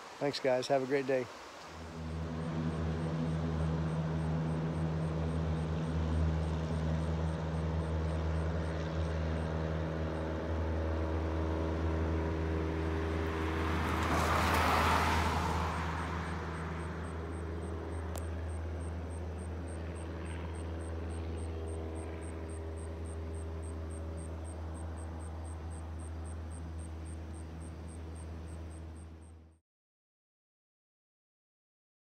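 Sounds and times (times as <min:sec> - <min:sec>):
propeller engine drone: 0:00.0 - 0:29.6.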